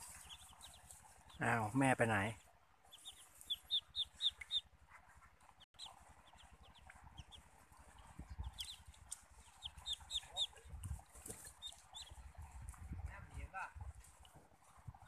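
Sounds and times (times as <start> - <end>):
ducklings peeping: 0.0 - 13.4.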